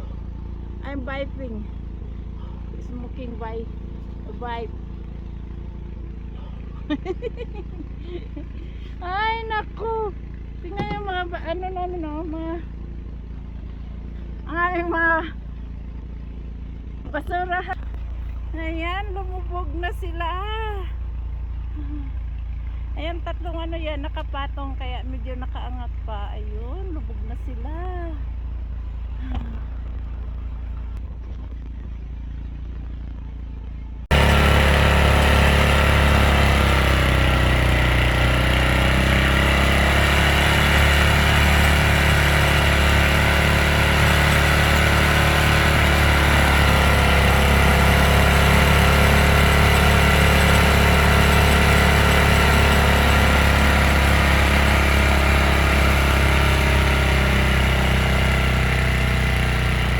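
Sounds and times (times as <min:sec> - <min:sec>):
snowblower engine running: 0:00.0 - 0:31.4, 0:32.0 - 0:59.9
quiet engine hum: 0:00.0 - 0:59.9.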